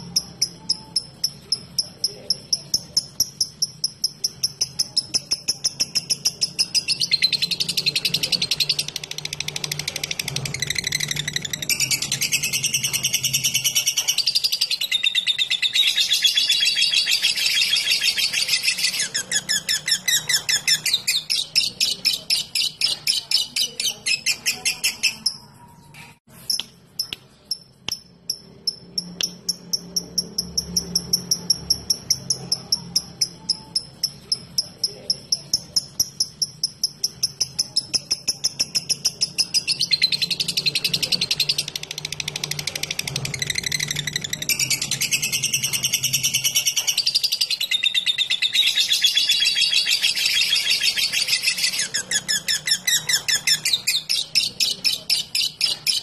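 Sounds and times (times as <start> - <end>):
lovebird chattering trill: 0.0 - 25.6, 26.5 - 56.0.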